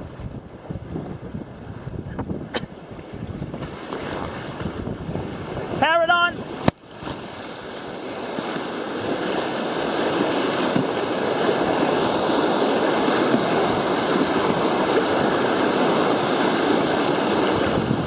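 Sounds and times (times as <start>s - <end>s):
water rushing around boat: 0.0s - 18.0s
wind rushing: 3.1s - 18.0s.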